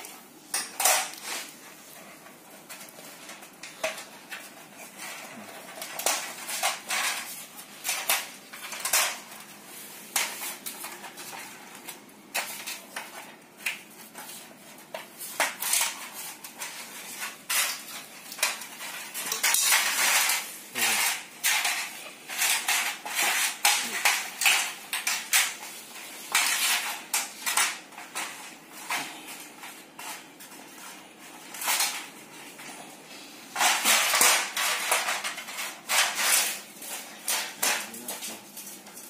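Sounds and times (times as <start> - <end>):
rubbing and rattling: 0.0 - 32.8, 33.5 - 39.0.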